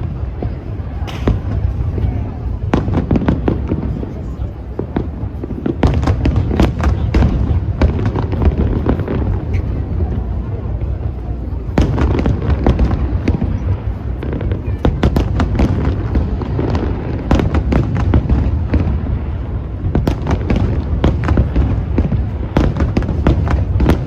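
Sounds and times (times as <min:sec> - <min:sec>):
fireworks cracks and bangs: 0:00.0 - 0:24.0.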